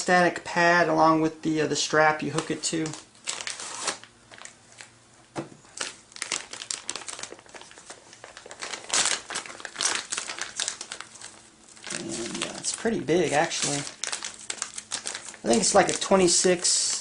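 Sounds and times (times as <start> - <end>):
packaging crinkling: 2.3 - 5.0, 5.7 - 17.0.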